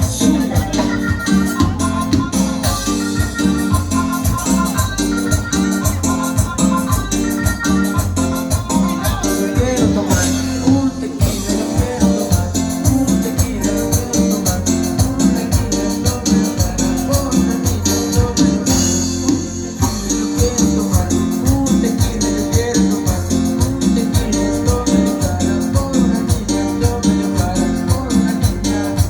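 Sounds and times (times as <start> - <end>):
cumbia band music: 0.0 - 29.0
latin percussion: 0.0 - 29.0.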